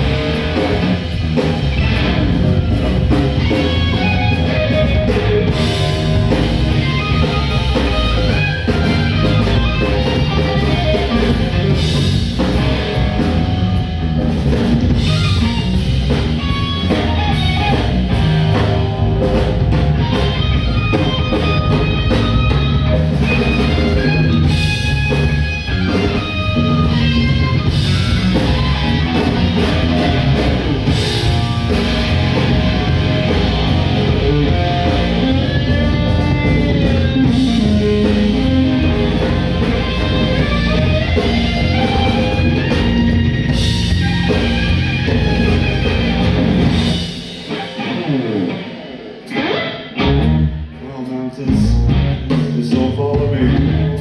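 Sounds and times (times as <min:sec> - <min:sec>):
electric guitar solo: 0:00.0 - 0:52.3
bass guitar: 0:00.0 - 0:54.0
drum kit: 0:00.0 - 0:54.0.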